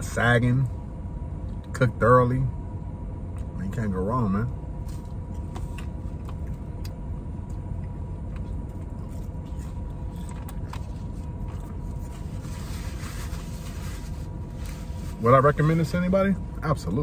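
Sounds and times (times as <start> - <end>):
car idling rumble: 0.0 - 17.0
faint steady hum: 0.0 - 17.0.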